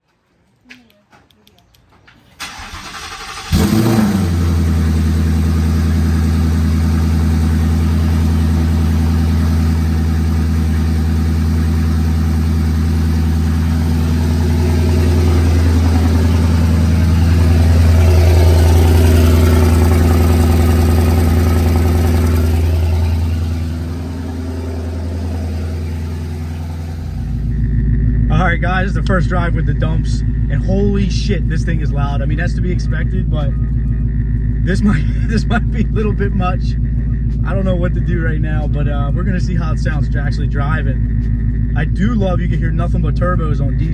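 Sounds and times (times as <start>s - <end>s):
car engine starting and idling: 2.3s - 43.9s.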